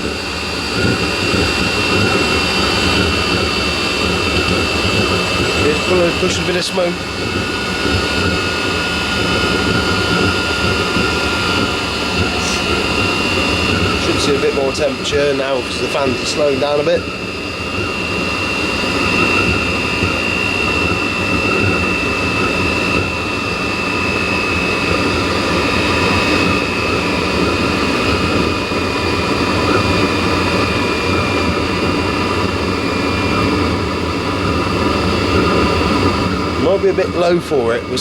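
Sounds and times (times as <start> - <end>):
blower fan whine: 0.0 - 38.0
heater combustion rumble: 0.0 - 38.0.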